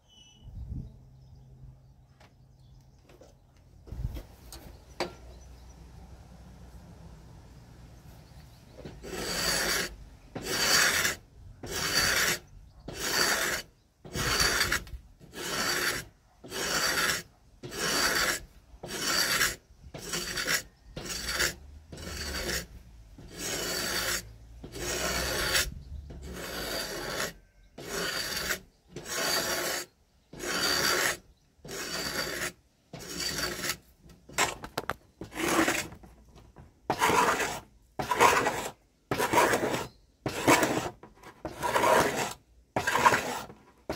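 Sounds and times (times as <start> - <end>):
blade scraping wood: 8.7 - 43.9.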